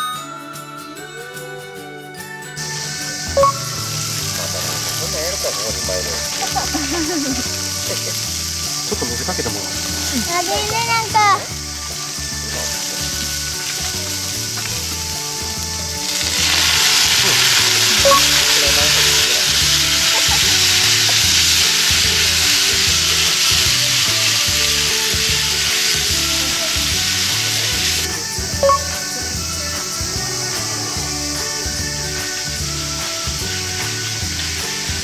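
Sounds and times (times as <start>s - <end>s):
water splashing into hot pan: 2.6s - 29.4s, 31.4s - 35.0s
noodles sizzling in a pan: 2.6s - 35.0s.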